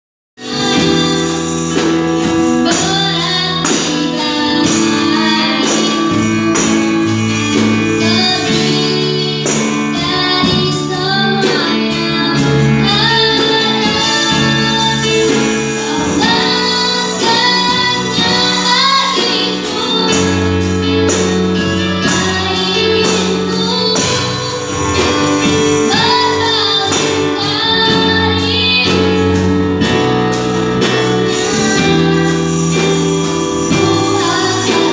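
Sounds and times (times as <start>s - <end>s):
young person singing: 0.4s - 30.1s, 30.7s - 34.9s
instrumental backing: 0.4s - 34.9s.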